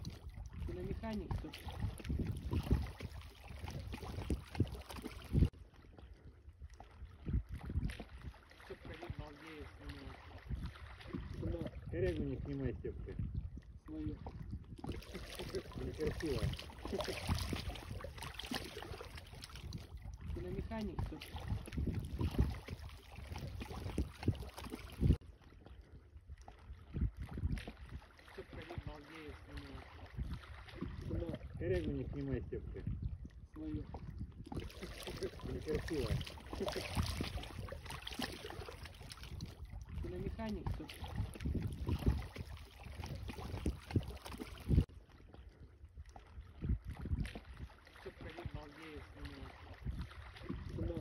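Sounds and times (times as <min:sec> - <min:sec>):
wind buffeting microphone: 0:00.0 - 0:09.4, 0:10.0 - 0:29.0, 0:30.0 - 0:48.8, 0:49.6 - 0:51.0
rippling river water: 0:00.0 - 0:51.0
small waves lapping: 0:00.0 - 0:51.0.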